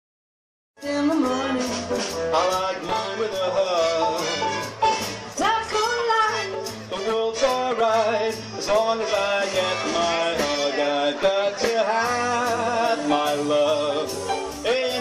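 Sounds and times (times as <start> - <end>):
big band playing: 0.8 - 15.0.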